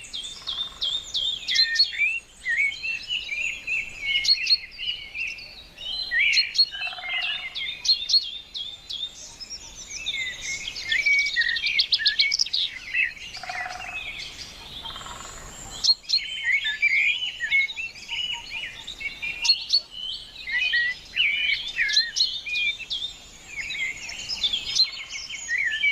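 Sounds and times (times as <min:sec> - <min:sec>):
birds chirping and singing: 0:00.0 - 0:25.9.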